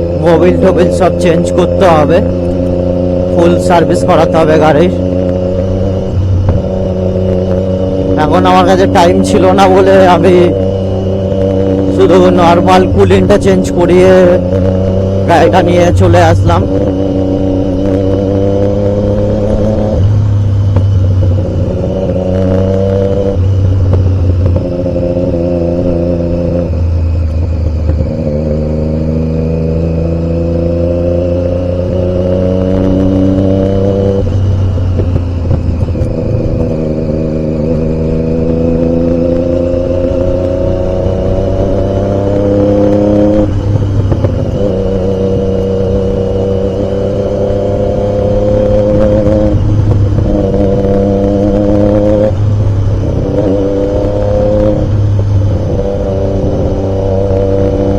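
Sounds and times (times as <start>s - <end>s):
motorcycle engine revving through gears: 0.0s - 57.9s.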